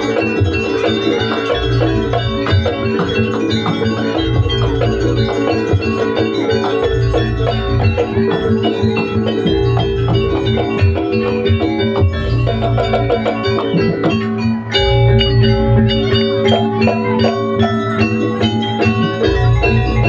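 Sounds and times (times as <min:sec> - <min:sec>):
ringing gamelan-style percussion: 0:00.0 - 0:20.0
steady held tone: 0:00.0 - 0:20.0.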